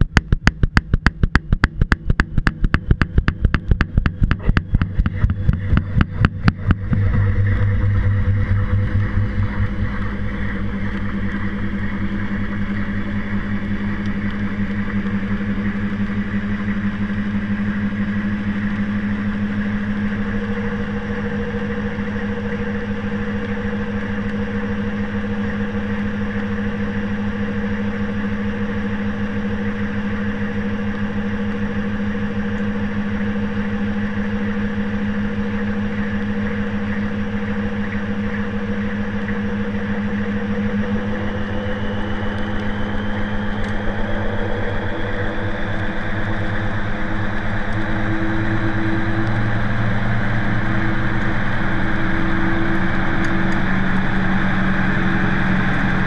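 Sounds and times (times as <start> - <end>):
higher hum: 0.0 - 56.0
washing machine running: 0.0 - 56.0.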